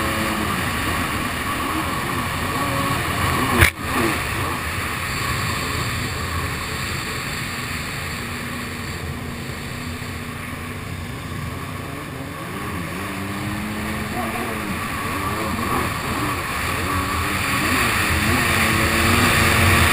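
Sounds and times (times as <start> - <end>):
jet ski engine at speed: 0.0 - 19.9
rushing spray and wind: 0.0 - 19.9.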